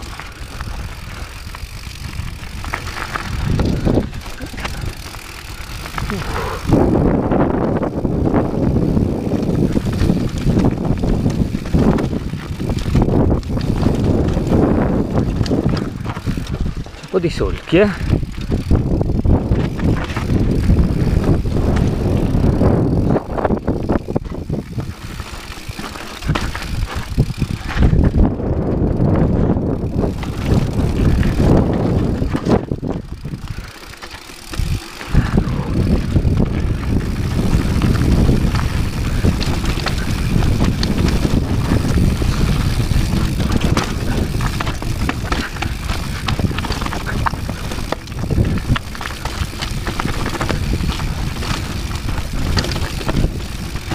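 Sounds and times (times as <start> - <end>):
bike clattering and knocking: 0.0 - 53.9
tyres crunching over loose stones: 0.0 - 53.9
wind rumble on microphone: 0.0 - 53.9.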